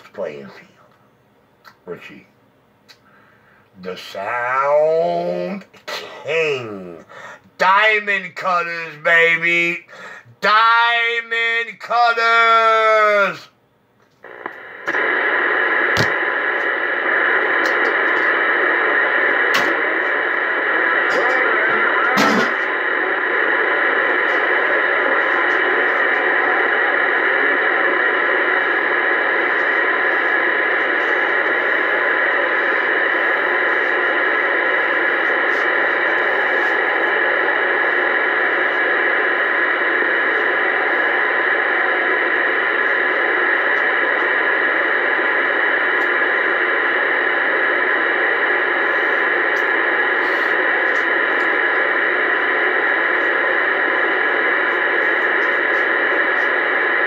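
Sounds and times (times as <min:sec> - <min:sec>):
radio static hiss: 0:00.0 - 0:01.0, 0:01.6 - 0:57.0.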